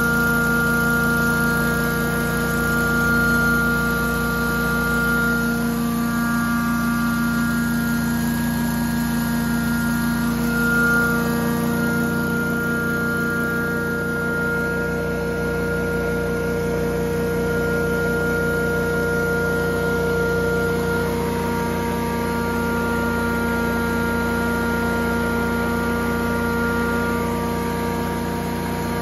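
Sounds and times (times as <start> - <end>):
blower and pump running: 0.0 - 29.0.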